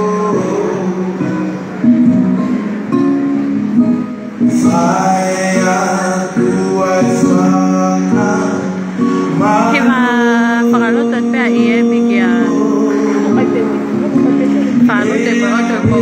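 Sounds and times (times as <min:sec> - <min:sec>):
man singing into a microphone: 0:00.0 - 0:02.1, 0:04.4 - 0:16.0
guitar accompaniment: 0:00.0 - 0:16.0.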